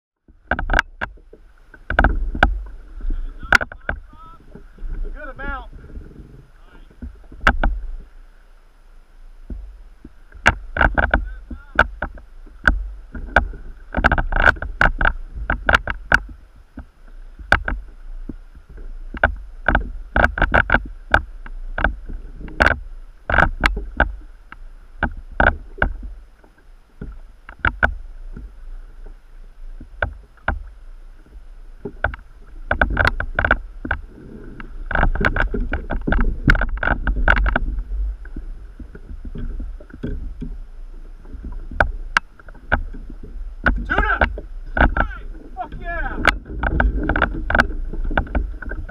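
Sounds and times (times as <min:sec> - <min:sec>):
low rumble of wind and water: 0:00.2 - 0:48.9
water slapping kayak hull: 0:00.2 - 0:48.9.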